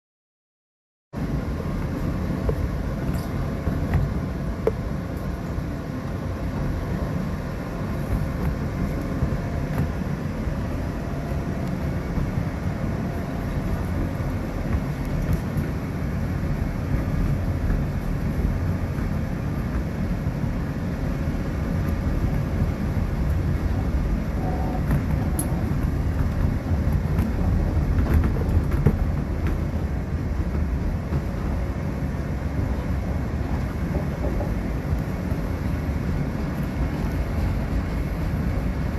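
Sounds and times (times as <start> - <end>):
train wheels rumbling on rails: 1.2 - 38.9.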